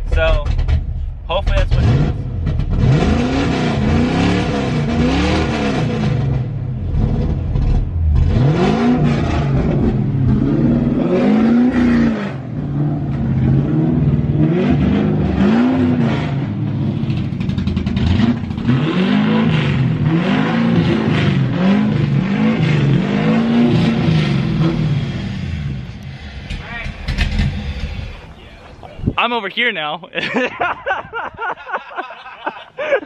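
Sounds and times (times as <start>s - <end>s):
car engine revving in blips: 0.1s - 28.4s.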